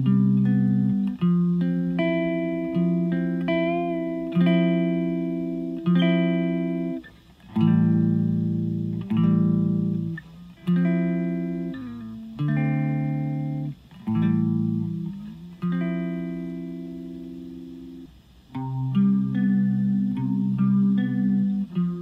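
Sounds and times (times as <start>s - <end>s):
electric guitar strumming chords: 0.0s - 22.0s.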